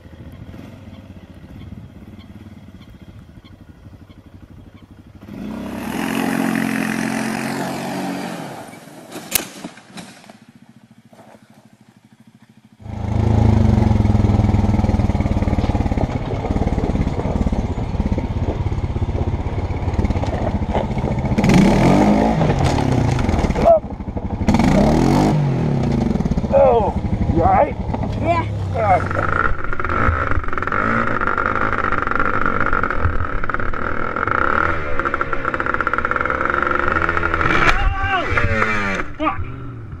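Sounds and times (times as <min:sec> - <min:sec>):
quad bike engine running: 0:00.0 - 0:08.8, 0:10.3 - 0:40.0.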